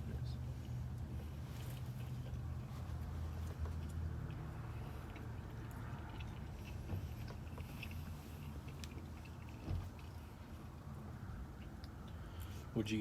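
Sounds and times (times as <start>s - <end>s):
person chewing food: 0.4s - 12.7s.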